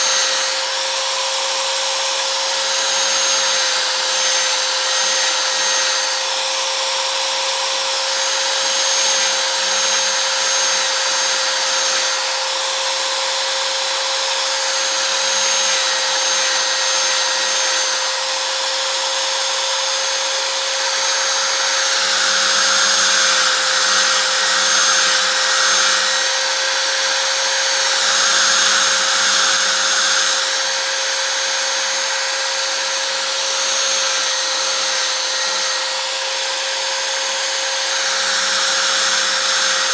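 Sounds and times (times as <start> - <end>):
angle grinder sanding wood: 0.0 - 39.9.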